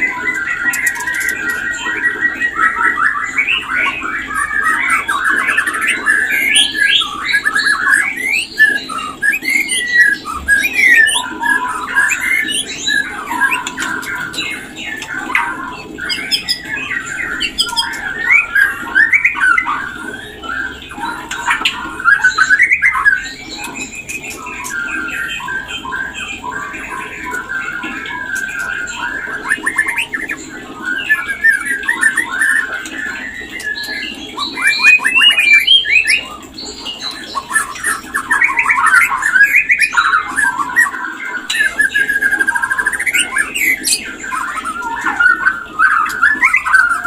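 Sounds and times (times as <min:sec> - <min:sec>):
bird singing whistled notes: 0:00.0 - 0:47.0.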